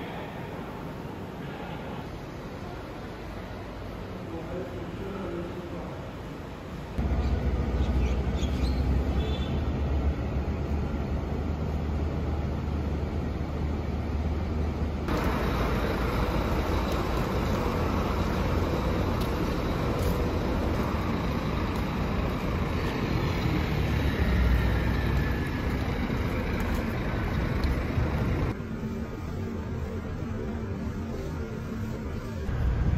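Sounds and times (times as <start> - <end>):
road traffic: 0.0 - 32.9
bus engines idling: 6.1 - 32.9.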